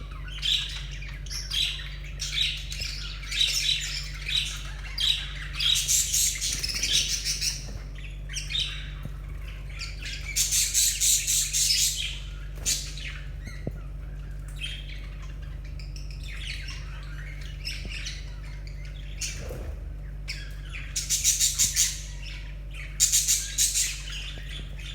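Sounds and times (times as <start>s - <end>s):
budgerigars chattering and squawking: 0.0s - 24.9s
steady low hum: 0.0s - 24.9s.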